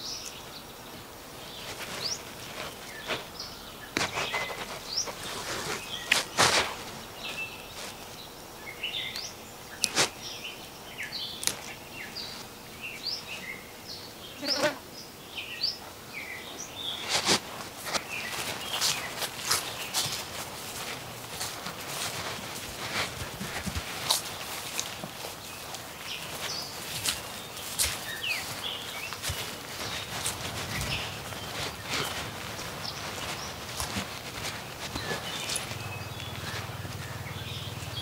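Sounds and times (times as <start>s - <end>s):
leafy stems rustling: 0.0s - 14.7s, 15.8s - 38.0s
birds chirping: 0.0s - 38.0s
faint outdoor hiss: 0.0s - 38.0s.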